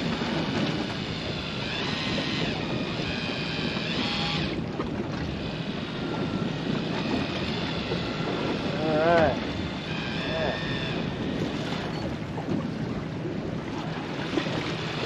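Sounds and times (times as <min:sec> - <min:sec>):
waves lapping against boat hull: 0:00.0 - 0:15.0
wind buffeting microphone: 0:00.0 - 0:15.0.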